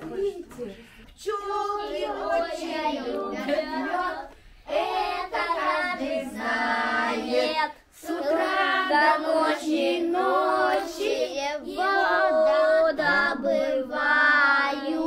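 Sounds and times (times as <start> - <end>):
children and woman singing: 0.0 - 15.0.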